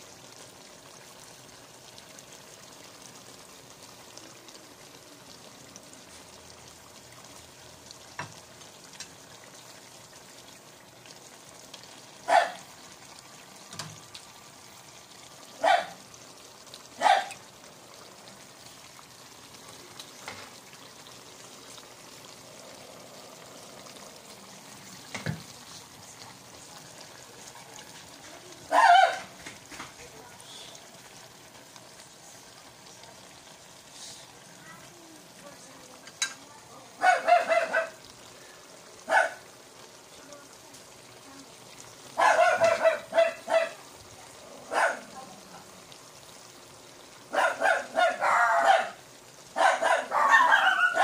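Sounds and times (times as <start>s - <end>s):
sauce simmering in a frying pan: 0.0s - 51.0s.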